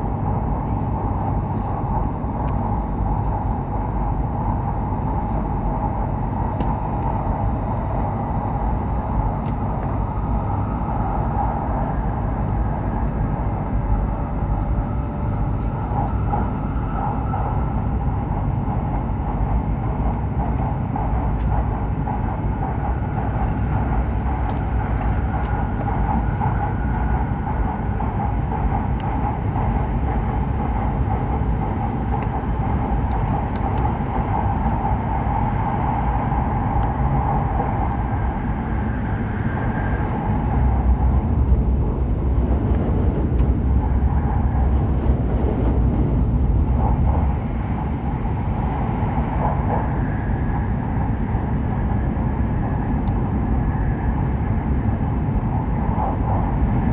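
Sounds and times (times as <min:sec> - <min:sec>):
train running rumble and hiss: 0:00.0 - 0:56.9.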